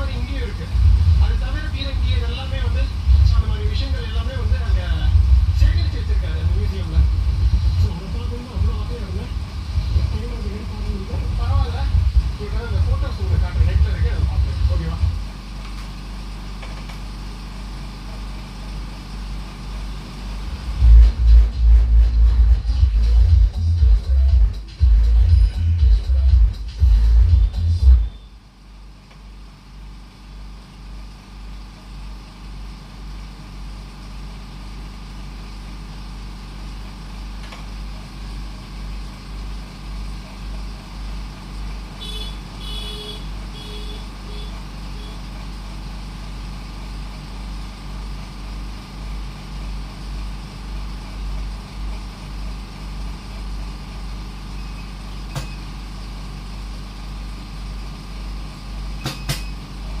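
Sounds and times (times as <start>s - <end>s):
engine running with pulsing drone: 0.0s - 60.0s.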